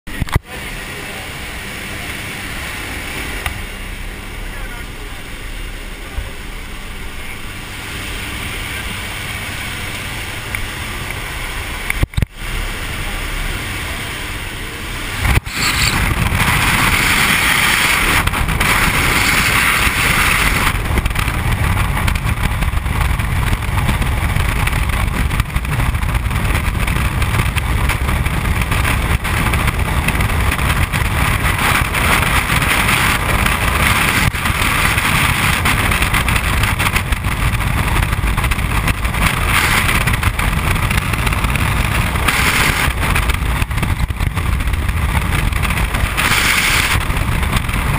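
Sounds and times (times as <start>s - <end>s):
freefall wind on microphone: 0.1s - 47.9s
wind rushing: 1.6s - 47.9s.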